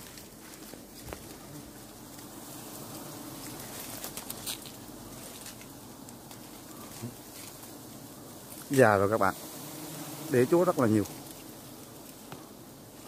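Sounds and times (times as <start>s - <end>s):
bees humming: 0.2s - 13.0s.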